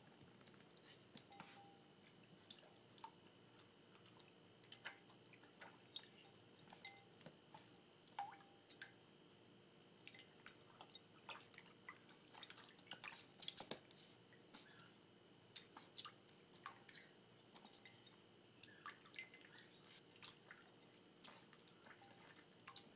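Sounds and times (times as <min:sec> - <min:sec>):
small water splashes and drips: 0:02.0 - 0:09.0, 0:09.8 - 0:14.9, 0:15.5 - 0:22.9.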